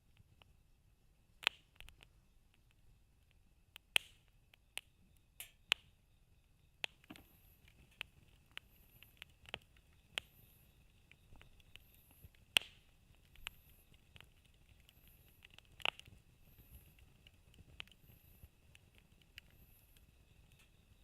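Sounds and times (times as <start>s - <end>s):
campfire crackling and popping: 0.0s - 0.7s, 1.3s - 21.0s.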